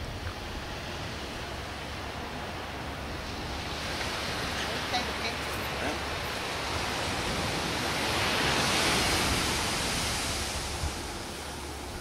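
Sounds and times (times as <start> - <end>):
surf breaking on a beach: 0.0 - 12.0.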